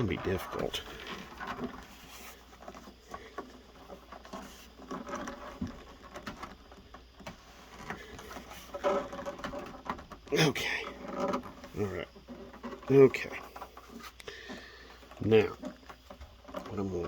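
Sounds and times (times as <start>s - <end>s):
rubber gasket clicking and scraping: 0.0s - 17.0s.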